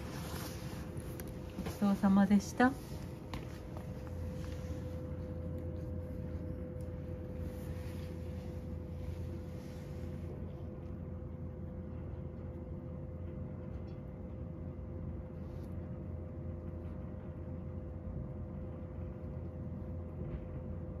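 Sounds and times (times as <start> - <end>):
room heater humming: 0.0 - 21.0.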